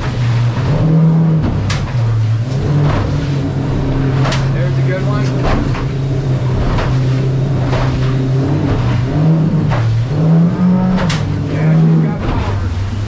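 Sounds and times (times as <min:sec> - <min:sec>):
hull slapping waves: 0:00.0 - 0:13.0
outboard motor running at speed: 0:00.0 - 0:13.0
water wash: 0:00.0 - 0:13.0.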